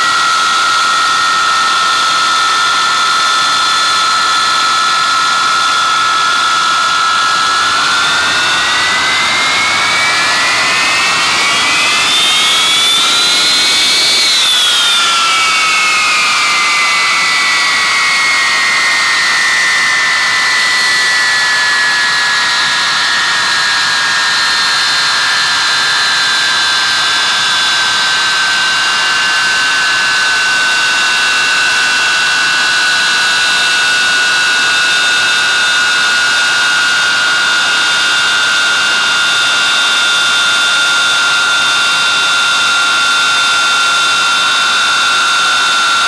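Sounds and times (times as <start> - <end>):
high whine falling in pitch: 0.0 - 46.0
jet engines roaring: 5.4 - 46.0.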